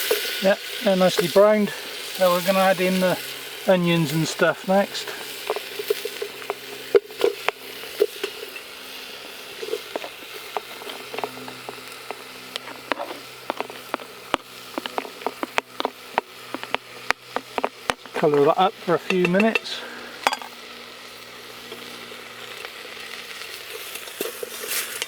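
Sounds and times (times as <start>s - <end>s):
food frying in oil: 0.0s - 25.0s
sharp pops and crackles: 0.0s - 25.0s.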